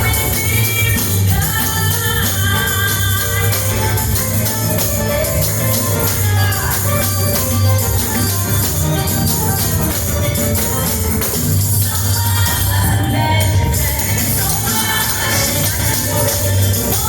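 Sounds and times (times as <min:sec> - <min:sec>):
gospel band playing: 0:00.0 - 0:17.0
steady bass: 0:00.0 - 0:17.0.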